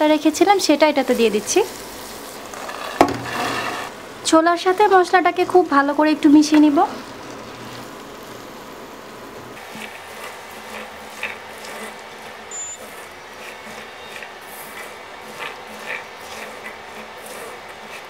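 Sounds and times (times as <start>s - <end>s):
chickpeas sizzling in oil: 0.0s - 18.0s.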